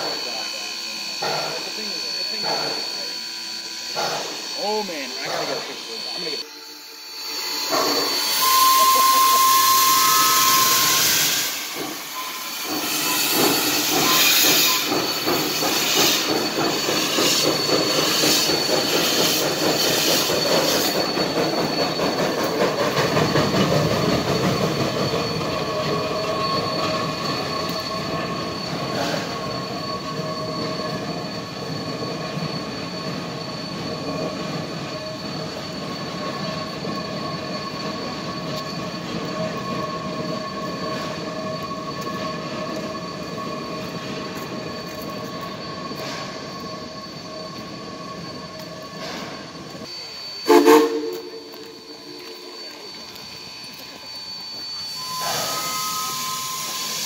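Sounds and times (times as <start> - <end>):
steam hissing: 0.0 - 57.0
steam locomotive chuffing: 0.0 - 57.0
wheels squealing on rail: 0.0 - 57.0.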